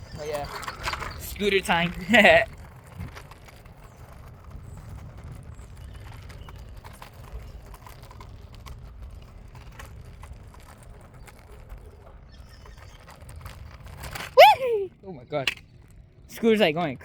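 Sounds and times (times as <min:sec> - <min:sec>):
scooter wheels rumbling on pavement: 0:00.0 - 0:17.0
small clicks and rattles: 0:00.1 - 0:14.4.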